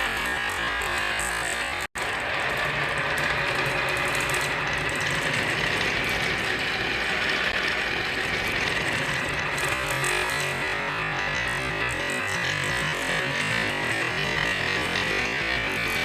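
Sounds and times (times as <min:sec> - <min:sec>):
mechanical clattering and rattling: 0:00.0 - 0:16.0.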